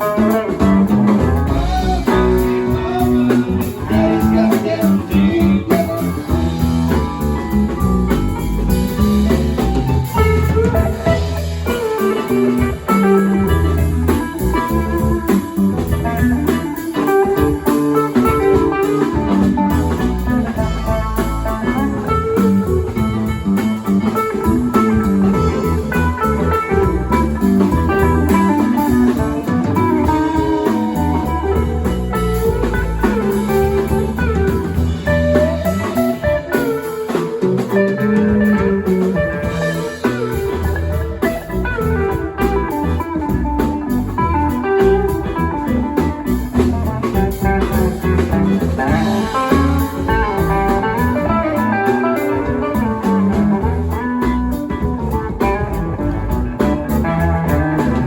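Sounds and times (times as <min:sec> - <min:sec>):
bass and drums: 0:00.0 - 0:58.0
electric guitar: 0:00.0 - 0:58.0.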